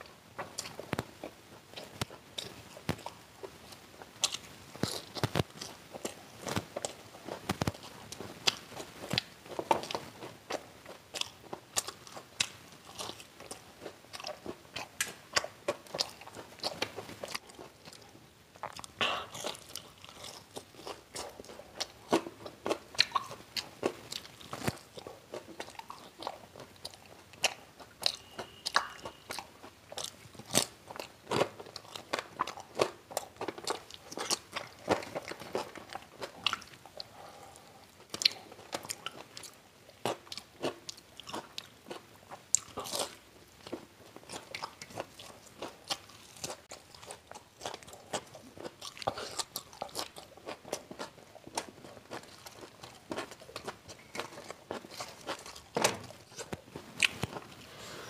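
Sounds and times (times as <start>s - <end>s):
crunching and chewing crisp snacks: 0.3s - 57.9s.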